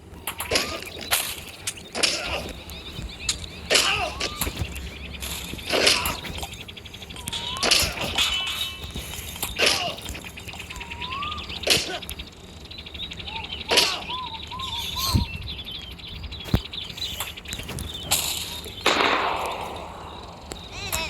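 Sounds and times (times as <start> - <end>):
chirping pitch glides: 0.0 - 21.0.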